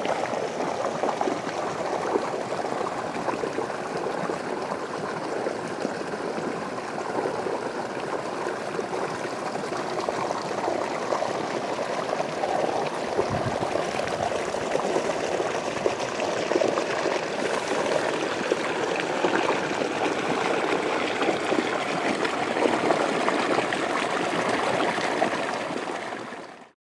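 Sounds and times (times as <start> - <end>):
water rushing and gurgling: 0.0 - 26.7.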